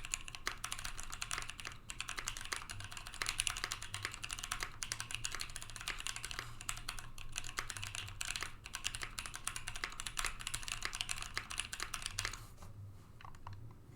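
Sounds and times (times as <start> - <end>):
mechanical keyboard typing: 0.0 - 12.4.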